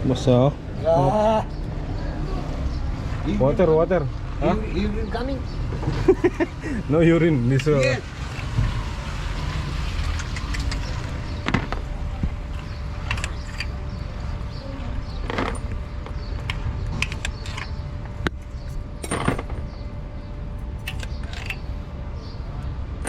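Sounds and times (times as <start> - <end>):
low workshop rumble: 0.0 - 23.0.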